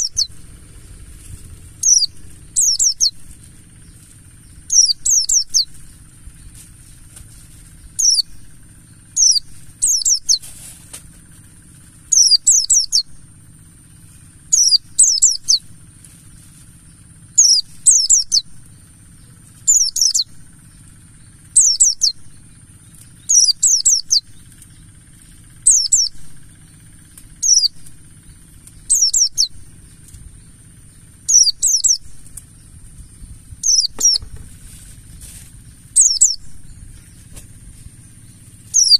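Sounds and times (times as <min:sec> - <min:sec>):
bird twittering high phrases: 0:00.0 - 0:10.5, 0:11.2 - 0:38.9
faint low hum: 0:00.0 - 0:38.9.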